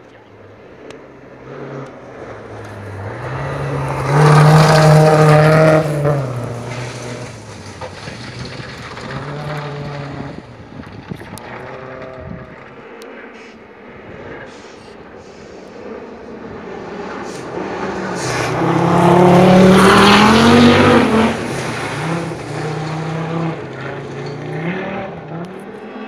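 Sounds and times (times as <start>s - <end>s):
rally car engine passing: 0.2s - 26.0s.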